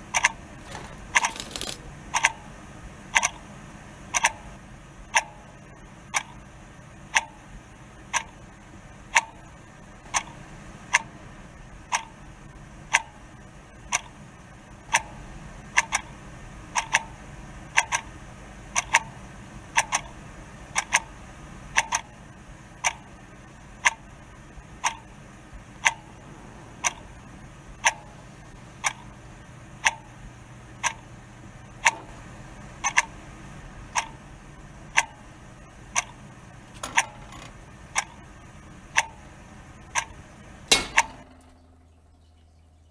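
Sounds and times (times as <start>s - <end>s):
steady ticking clicks: 0.0s - 41.3s.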